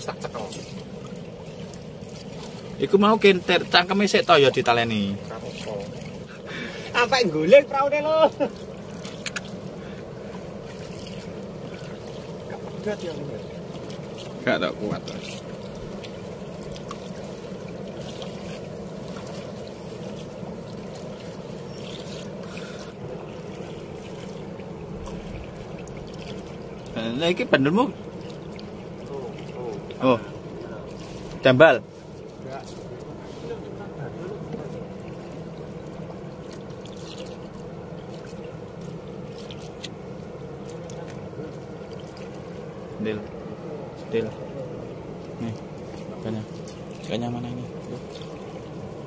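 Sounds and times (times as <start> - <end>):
river water slapping a wooden boat: 0.0 - 49.0
wind: 0.0 - 49.0.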